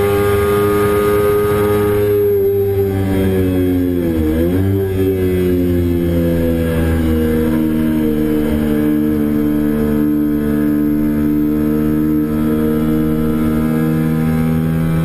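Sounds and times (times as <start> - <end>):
motorcycle engine under throttle: 0.0 - 15.0.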